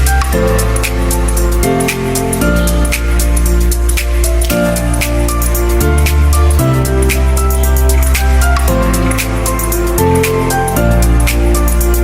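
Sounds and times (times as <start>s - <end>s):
deep bass line: 0.0s - 12.0s
electronic music: 0.0s - 12.0s
held synth chords: 0.0s - 12.0s.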